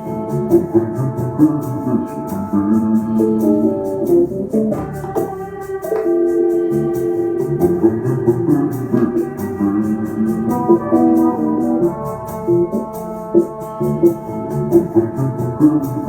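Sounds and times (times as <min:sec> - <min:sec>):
instrumental background music: 0:00.0 - 0:16.0.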